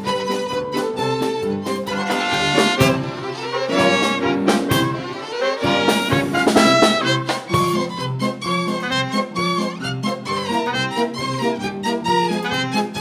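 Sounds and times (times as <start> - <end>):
brass orchestral film music: 0.0 - 13.0.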